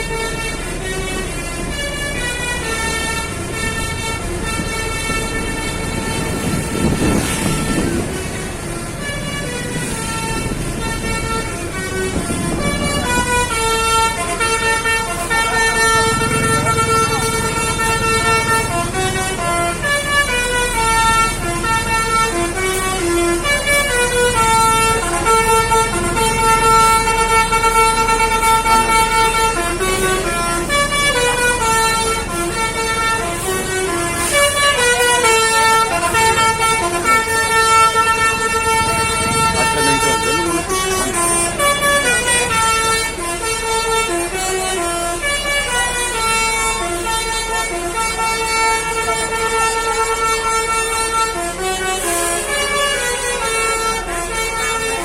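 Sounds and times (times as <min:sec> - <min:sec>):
musical air horn playing a tune: 0:00.0 - 0:55.0.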